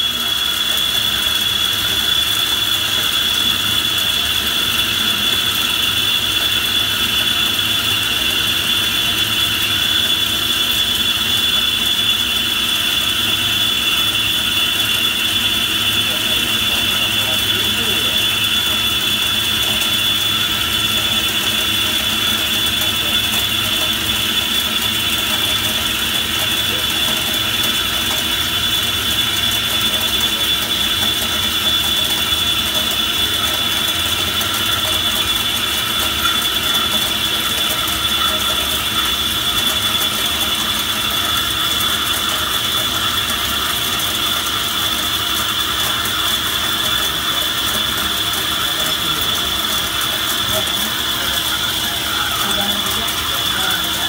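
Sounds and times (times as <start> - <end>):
drill cutting metal whine: 0.0 - 54.0
machine noise: 0.0 - 54.0.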